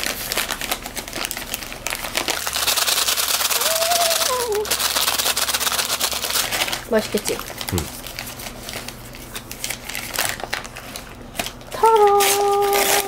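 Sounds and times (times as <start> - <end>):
paper wrapper crinkling: 0.0 - 13.0.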